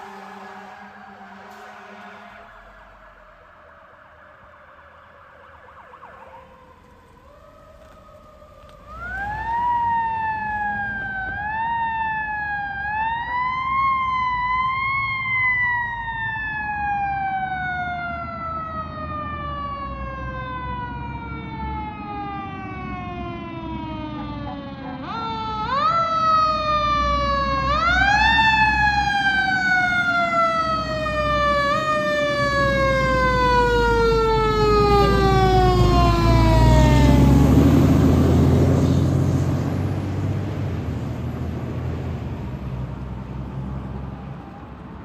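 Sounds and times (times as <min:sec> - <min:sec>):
fire truck siren: 0:00.0 - 0:45.0
low vehicle rumble: 0:00.0 - 0:45.0.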